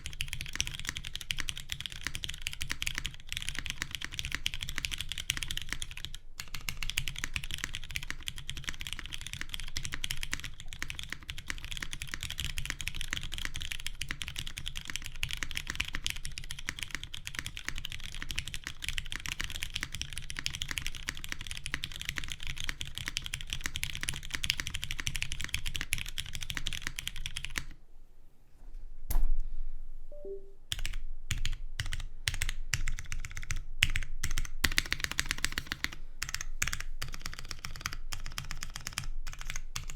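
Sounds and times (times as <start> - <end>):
mechanical keyboard typing: 0.0 - 27.7, 30.7 - 39.9.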